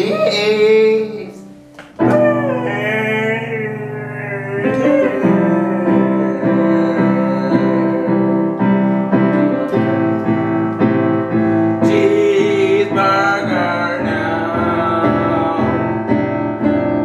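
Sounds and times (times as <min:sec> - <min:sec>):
person singing: 0:00.0 - 0:17.0
piano chords: 0:00.0 - 0:17.0.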